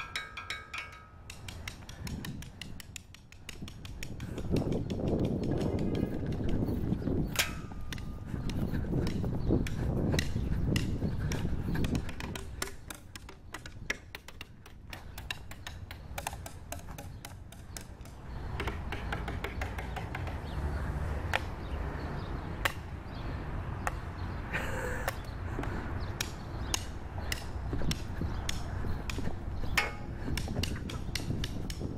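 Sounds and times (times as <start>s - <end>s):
sharp clicks and taps: 0.0s - 20.4s, 25.0s - 31.9s.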